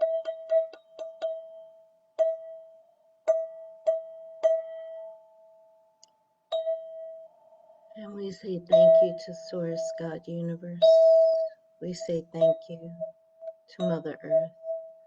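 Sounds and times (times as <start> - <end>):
metal tube chime ringing: 0.0 - 5.2, 6.5 - 15.0.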